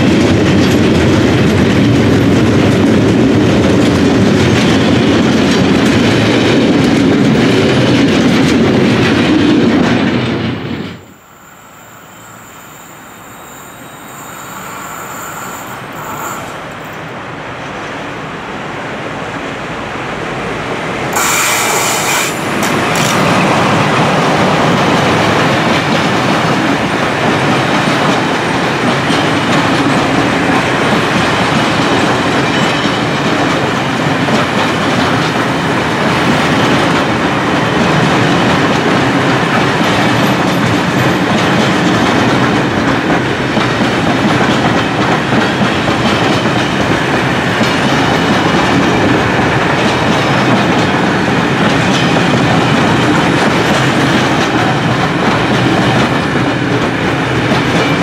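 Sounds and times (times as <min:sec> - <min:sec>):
train wheel clatter: 0:00.0 - 0:18.0, 0:21.0 - 0:58.0
freight train rumbling past: 0:00.0 - 0:58.0.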